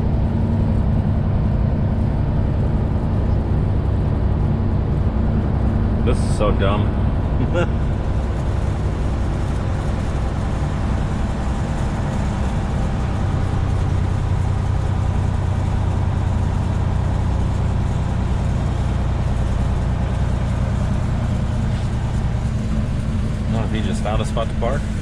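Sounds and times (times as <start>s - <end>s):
truck diesel engine drone: 0.0s - 25.0s.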